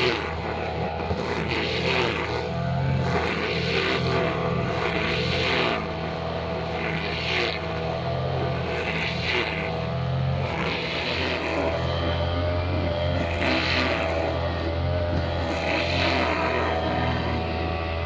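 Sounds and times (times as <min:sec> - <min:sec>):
brushcutter engine running: 0:00.0 - 0:18.0.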